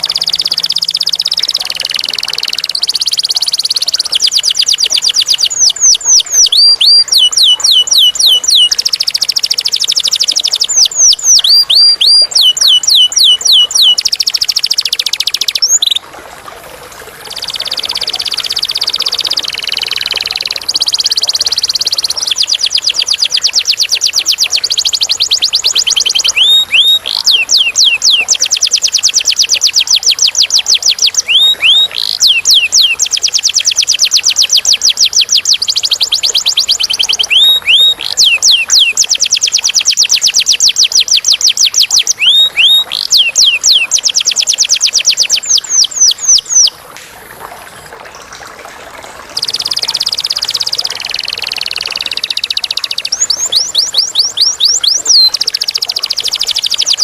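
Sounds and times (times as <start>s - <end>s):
canary singing trills: 0.0s - 16.0s, 17.2s - 46.8s, 49.4s - 57.0s.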